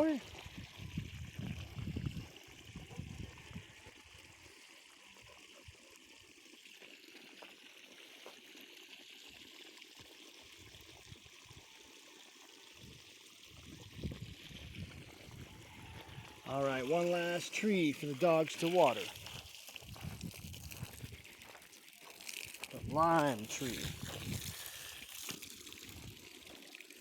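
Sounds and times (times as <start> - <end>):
water trickling: 0.0 - 27.0.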